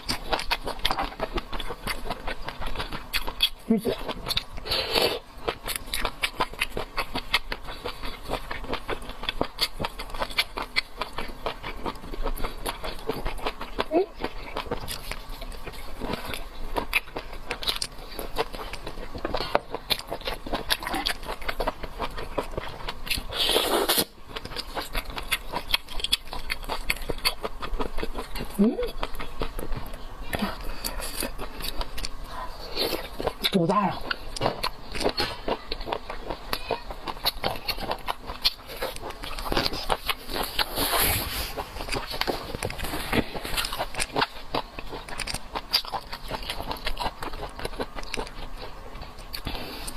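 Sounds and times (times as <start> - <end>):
mouth chewing food: 0.0 - 49.9.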